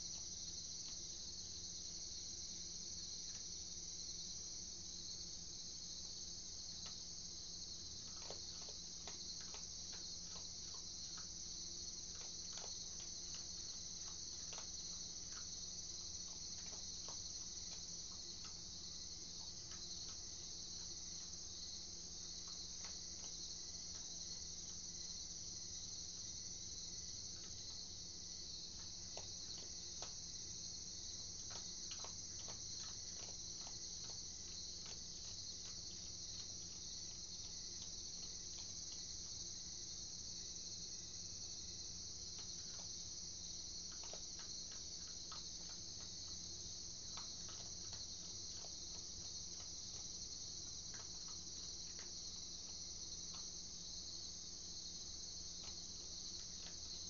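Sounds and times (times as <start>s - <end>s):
night insects chorus: 0.0s - 57.0s
faint crunching clicks: 7.8s - 39.6s, 41.6s - 54.2s, 55.0s - 57.0s.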